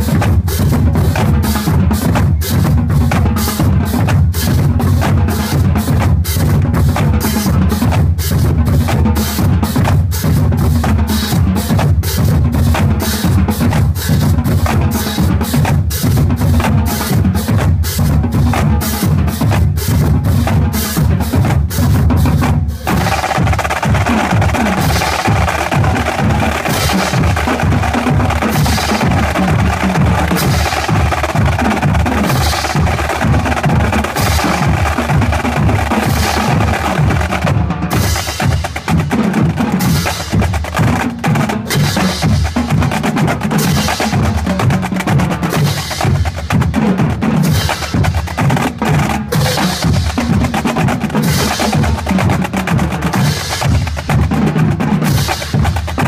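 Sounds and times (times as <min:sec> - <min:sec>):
snare and bass drums: 0:00.0 - 0:56.0.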